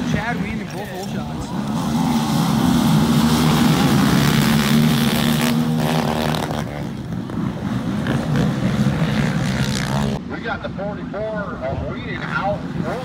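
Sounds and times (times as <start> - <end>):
quad engines revving: 0.0 - 10.2, 12.1 - 13.0.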